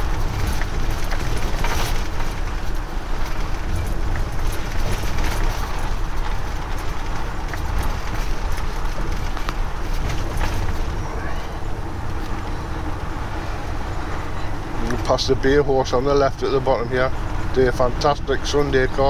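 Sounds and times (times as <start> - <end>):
road and engine rumble: 0.0 - 19.0
wind buffeting through open windows: 0.0 - 19.0.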